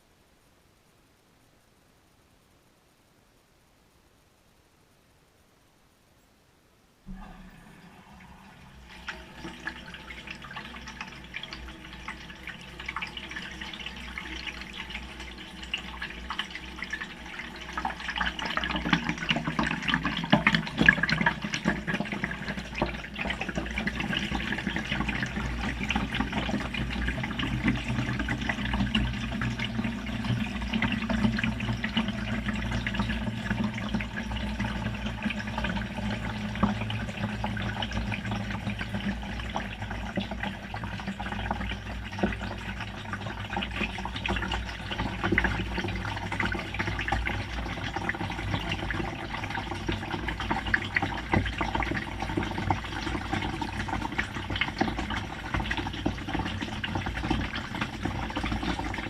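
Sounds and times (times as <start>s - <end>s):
low machine hum: 6.9s - 59.0s
water sloshing in washing machine drum: 7.1s - 59.0s.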